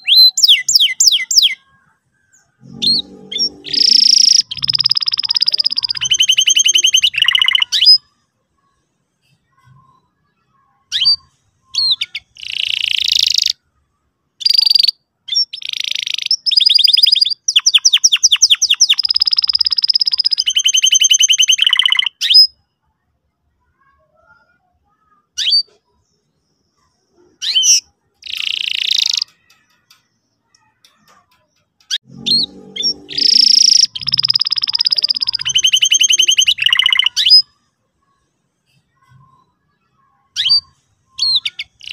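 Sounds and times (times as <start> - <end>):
canary singing: 0.0 - 8.8, 9.6 - 13.8, 14.4 - 22.7, 23.8 - 41.9.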